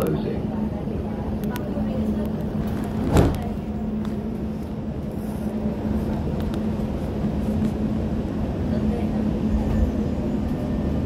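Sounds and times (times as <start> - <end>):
train electrical hum and rumble: 0.0 - 11.0.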